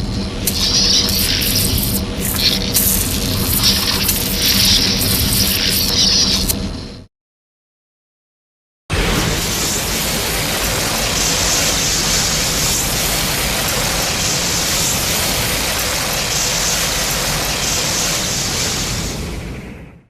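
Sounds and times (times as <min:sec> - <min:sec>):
loud rushing hiss: 0:00.5 - 0:06.2, 0:08.9 - 0:19.7.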